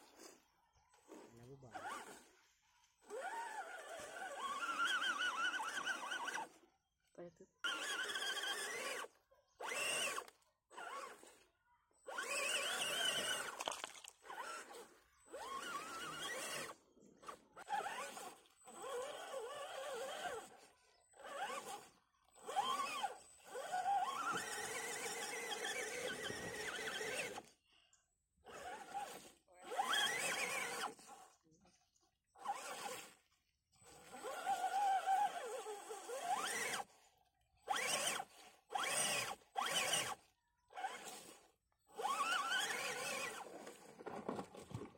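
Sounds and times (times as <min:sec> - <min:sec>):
electric motor whining: 0:03.0 - 0:06.6, 0:07.6 - 0:11.4, 0:12.1 - 0:27.5, 0:28.4 - 0:31.4, 0:32.3 - 0:44.9.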